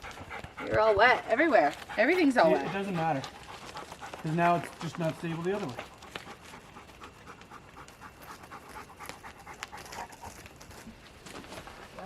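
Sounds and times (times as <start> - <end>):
dog panting rapidly: 0.0 - 10.5.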